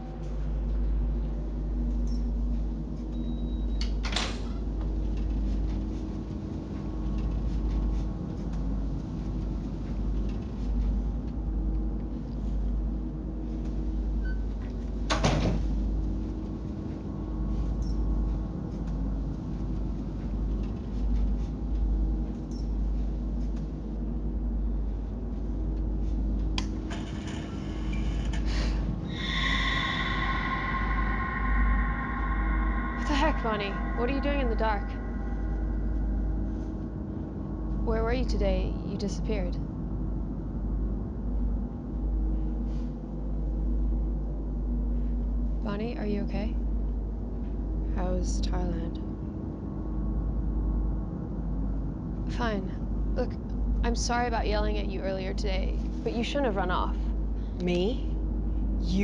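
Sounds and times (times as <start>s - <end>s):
low rumbling drone: 0.0s - 59.0s.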